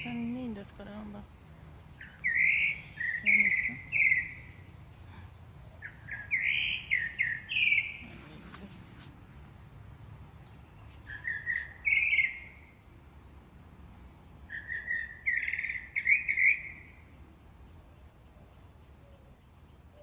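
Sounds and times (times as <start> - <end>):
finches chirping: 0.0 - 8.7, 10.4 - 20.0.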